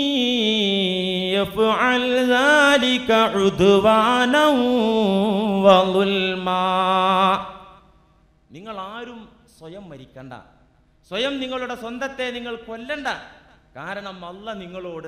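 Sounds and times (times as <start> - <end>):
man chanting: 0.0 - 7.8, 8.5 - 15.0.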